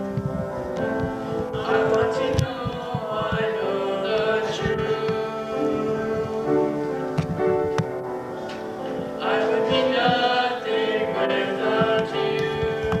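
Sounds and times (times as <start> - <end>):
group of voices singing: 0.8 - 7.5, 8.5 - 13.0.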